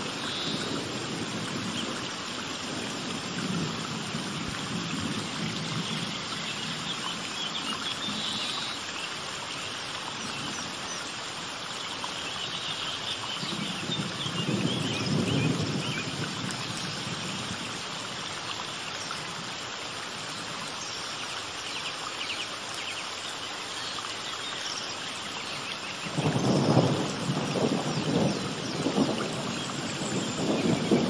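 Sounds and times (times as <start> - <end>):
running water: 0.0 - 31.0.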